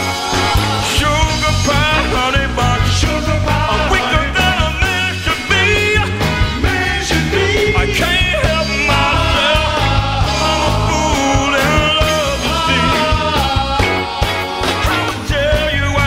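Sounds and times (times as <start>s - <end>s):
band playing soul song: 0.0s - 16.0s
lead singer singing: 0.0s - 16.0s.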